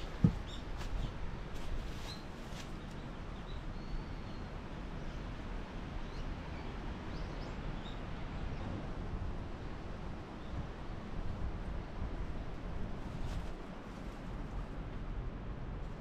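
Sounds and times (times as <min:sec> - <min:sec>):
rushing outdoor background noise: 0:00.0 - 0:16.0.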